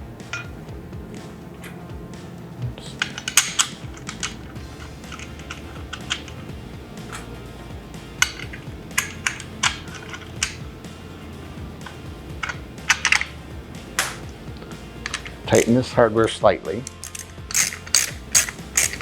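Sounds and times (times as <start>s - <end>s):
quiet background music: 0.0s - 19.0s
metal hardware clinking: 0.2s - 15.8s, 16.8s - 19.0s.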